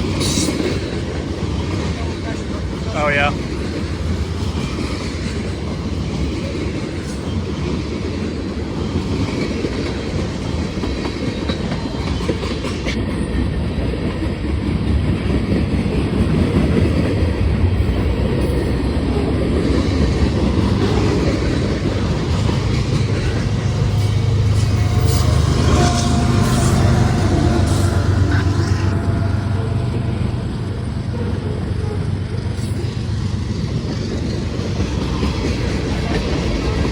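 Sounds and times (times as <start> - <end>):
train rumble: 0.0 - 36.9
train wheels clicking over rail joints: 0.0 - 36.9.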